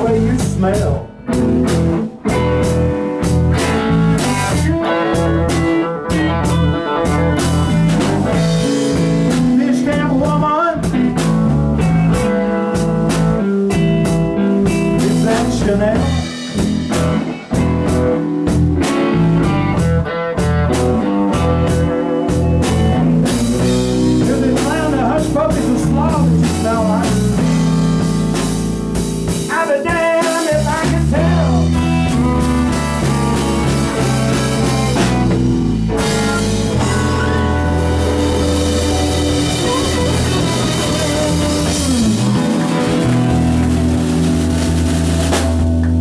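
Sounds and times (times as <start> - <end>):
bass guitar: 0.0 - 46.0
drum kit: 0.0 - 46.0
electric guitar lead with bent notes: 0.0 - 46.0.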